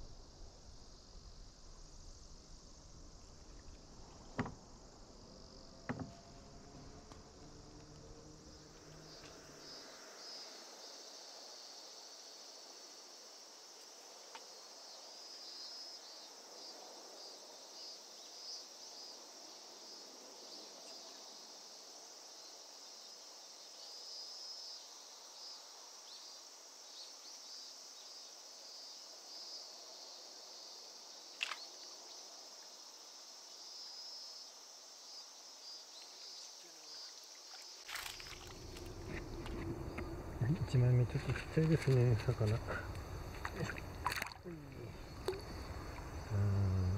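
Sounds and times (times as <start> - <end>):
insects chirping: 0.0 - 46.9.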